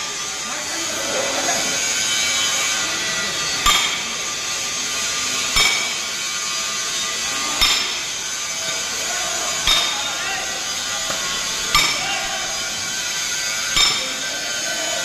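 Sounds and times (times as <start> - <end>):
workshop noise: 0.0 - 15.0
hammer striking steel: 1.8 - 15.0.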